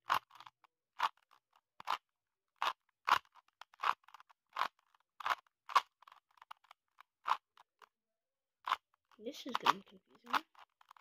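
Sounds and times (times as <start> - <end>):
puzzle cube clicking: 0.0 - 7.9, 8.6 - 11.0.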